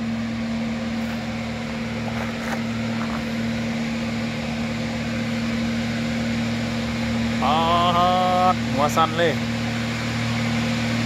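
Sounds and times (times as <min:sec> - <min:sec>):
diesel truck engine under load: 0:00.0 - 0:11.0.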